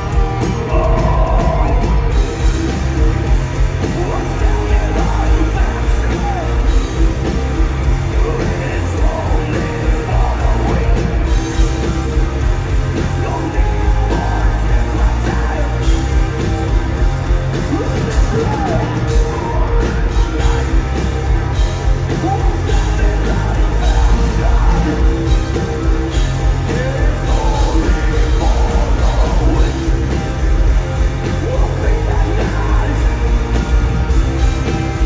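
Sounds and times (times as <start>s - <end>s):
distorted electric guitars: 0.0s - 35.0s
drums: 0.0s - 35.0s
heavy bass: 0.0s - 35.0s
singer singing and shouting: 0.0s - 35.0s.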